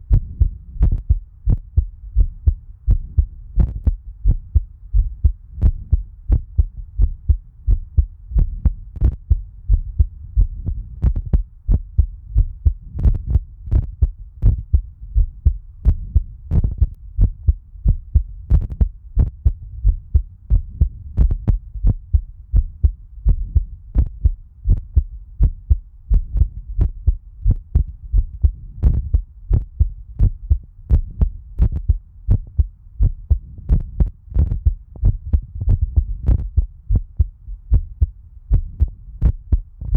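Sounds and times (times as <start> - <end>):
continuous low hum: 0.0 - 39.9
heartbeat thumps: 0.0 - 39.9.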